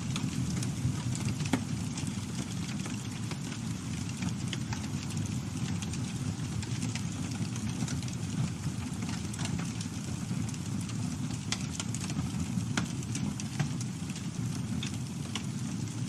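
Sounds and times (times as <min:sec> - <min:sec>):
burning wood crackling and popping: 0:00.0 - 0:16.0
campfire flames rumbling: 0:00.0 - 0:16.0.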